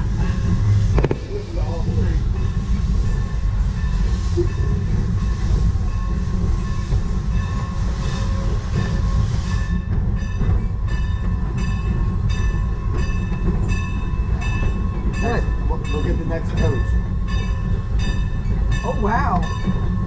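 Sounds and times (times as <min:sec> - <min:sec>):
train cars rumbling: 0:00.0 - 0:20.0.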